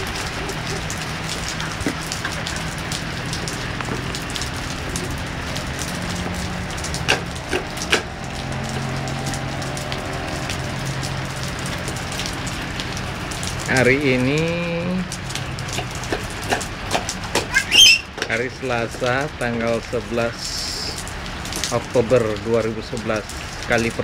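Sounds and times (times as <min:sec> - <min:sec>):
rain on a hard floor: 0:00.0 - 0:24.0.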